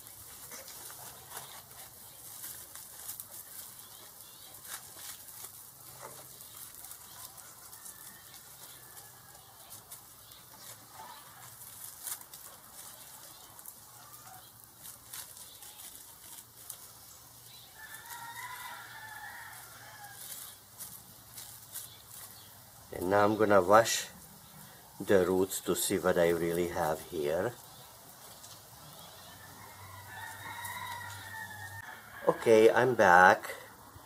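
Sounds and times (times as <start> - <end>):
soil and roots crackling: 0.0 - 34.0.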